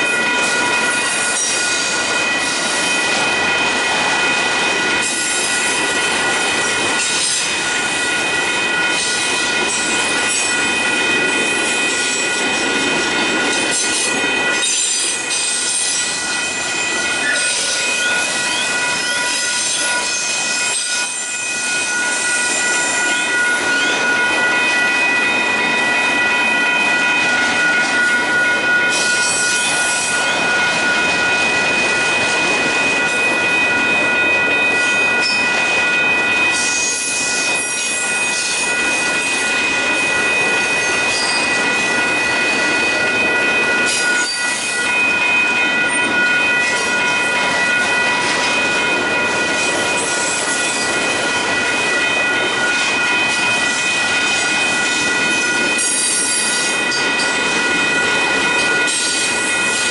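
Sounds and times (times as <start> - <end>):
steady high-pitched tones: 0.0 - 59.9
train wheels rumbling on rail: 0.0 - 59.9.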